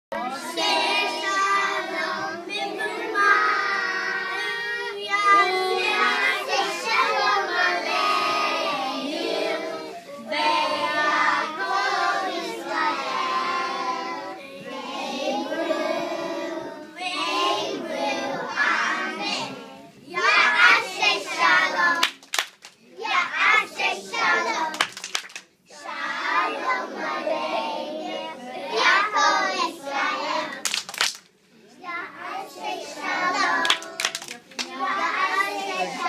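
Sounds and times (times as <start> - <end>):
young children singing: 0.2 - 22.2, 23.0 - 25.0, 25.7 - 30.7, 31.8 - 36.0.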